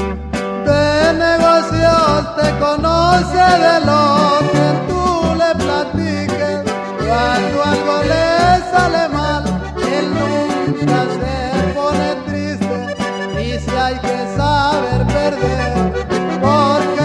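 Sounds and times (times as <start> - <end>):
accordion melody: 0.0 - 17.0.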